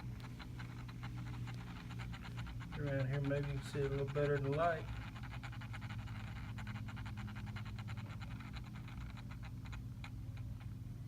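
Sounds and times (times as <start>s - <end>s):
small ticks and clicks: 0.0s - 10.8s
motorized turntable humming: 0.0s - 11.0s.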